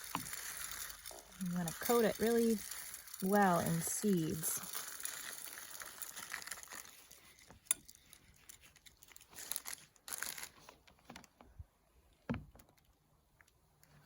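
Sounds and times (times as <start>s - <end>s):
birdseed rustling and crunching: 0.0s - 11.4s.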